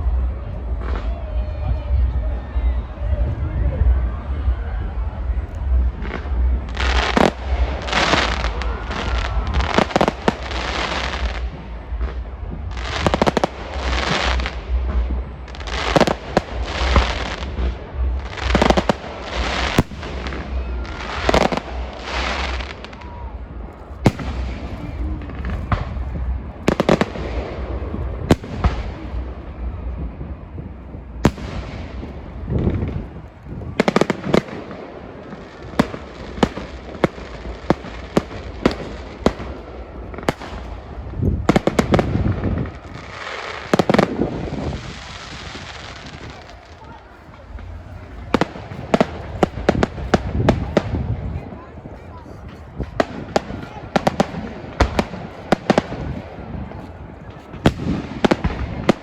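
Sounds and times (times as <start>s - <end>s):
fireworks crackling: 0.0s - 59.0s
fireworks bursting: 5.0s - 59.0s.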